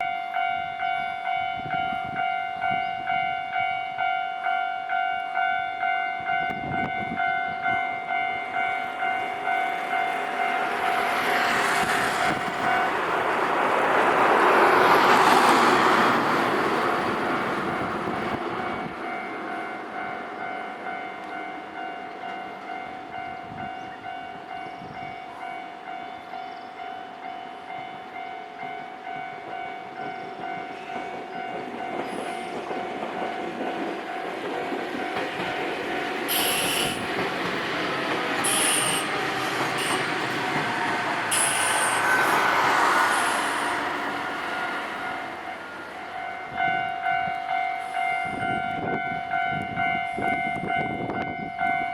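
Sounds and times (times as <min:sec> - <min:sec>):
train passing: 0:00.0 - 0:51.9.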